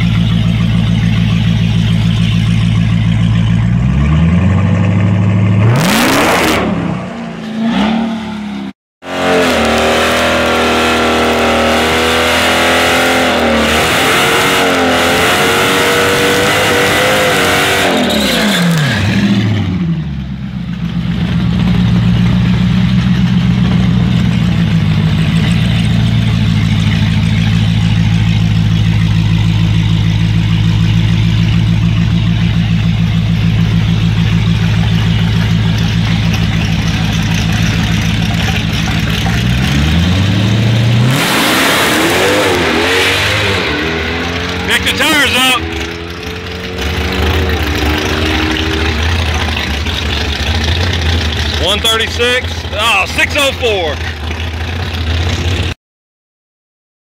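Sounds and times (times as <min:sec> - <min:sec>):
car engine idling: 0:00.0 - 0:06.0, 0:08.3 - 0:55.8
car engine revving: 0:00.0 - 0:55.8.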